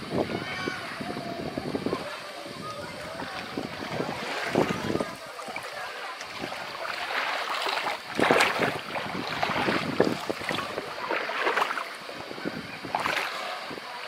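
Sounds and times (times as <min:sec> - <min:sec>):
water lapping at shore: 0:00.0 - 0:14.0
water splashing: 0:00.0 - 0:14.0
wind buffeting microphone: 0:00.0 - 0:14.0
footsteps wading through water: 0:02.0 - 0:14.0.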